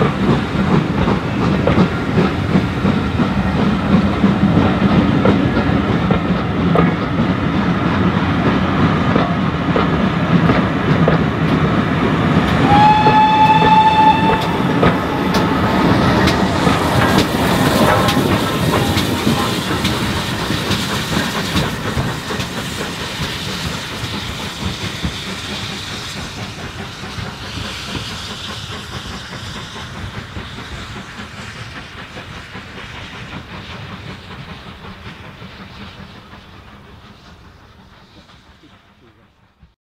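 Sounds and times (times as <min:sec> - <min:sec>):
train wheels clicking over rail joints: 0:00.0 - 0:39.6.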